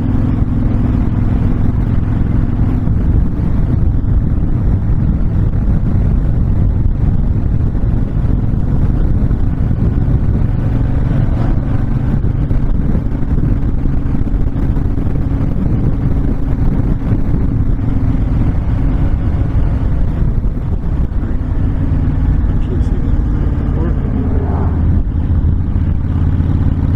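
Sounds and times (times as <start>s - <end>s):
motorcycle engine running: 0.0s - 26.9s
wind rushing: 0.0s - 26.9s.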